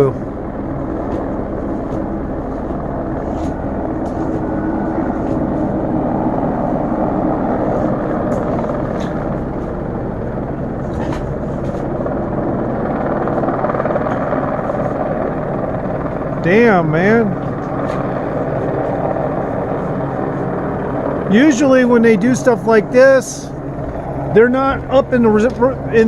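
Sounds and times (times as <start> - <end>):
helicopter rotor drone: 0.0 - 26.0.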